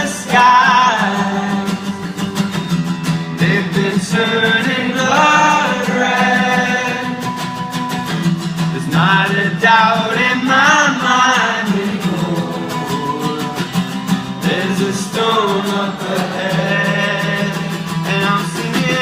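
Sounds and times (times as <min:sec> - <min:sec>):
person singing: 0:00.0 - 0:02.2, 0:03.4 - 0:07.4, 0:08.8 - 0:13.8, 0:14.4 - 0:19.0
strummed acoustic guitar: 0:00.0 - 0:19.0.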